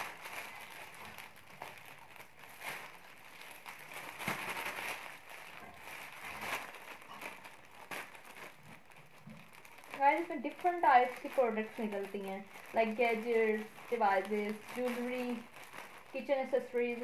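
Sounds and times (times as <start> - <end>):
plastic bag crinkling and rustling: 0.0 - 17.0.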